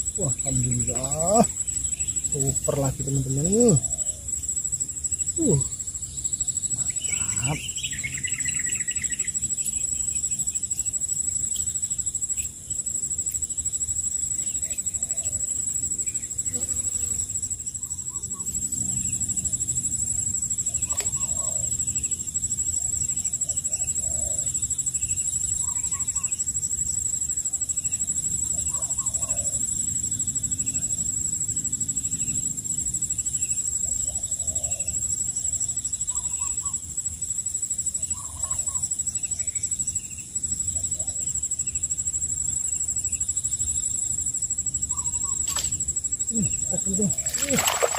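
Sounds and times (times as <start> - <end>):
steady high-pitched whine: 0.0 - 47.9.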